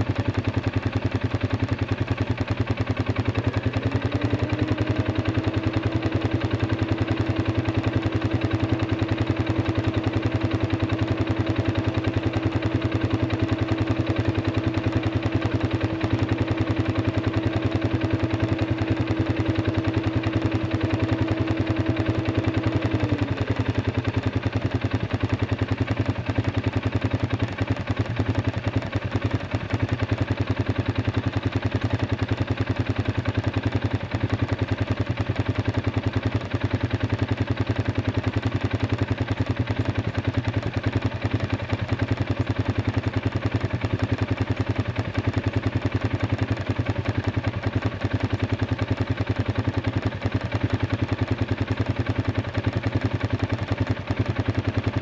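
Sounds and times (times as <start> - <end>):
atv engine idling: 0.0 - 55.0.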